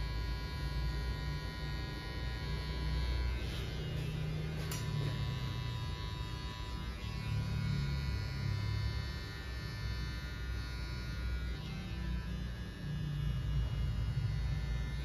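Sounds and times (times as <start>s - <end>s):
electric hair clipper buzzing: 0.0s - 15.0s.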